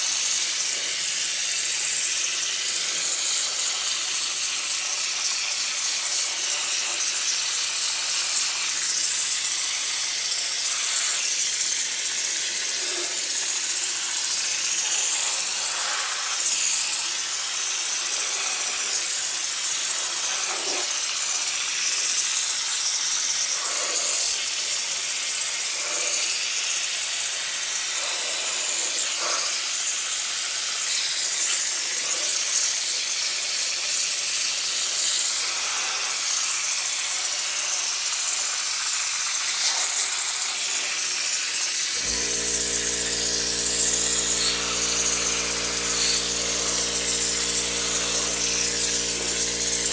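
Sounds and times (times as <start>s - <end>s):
compressed air spray hiss: 0.6s - 49.9s.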